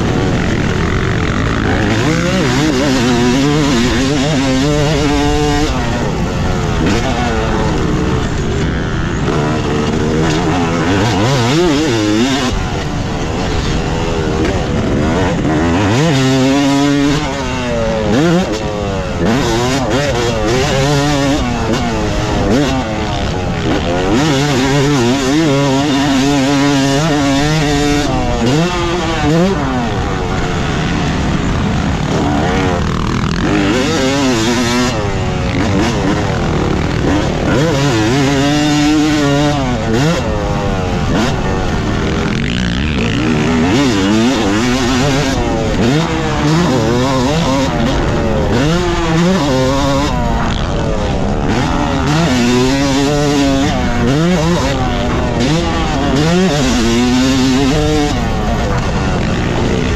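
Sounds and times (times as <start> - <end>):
motocross engine revving: 0.0 - 59.9
steady rush of noise: 0.0 - 59.9.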